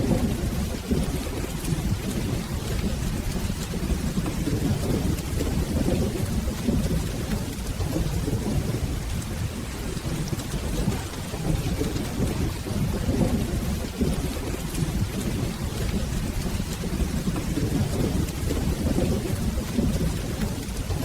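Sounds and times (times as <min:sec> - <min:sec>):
rolling thunder rumble: 0:00.0 - 0:21.0
steady rain: 0:00.0 - 0:21.0.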